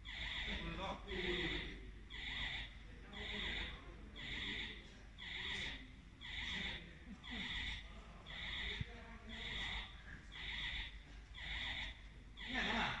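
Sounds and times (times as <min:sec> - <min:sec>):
lift warning alarm beeping: 0:00.0 - 0:13.0.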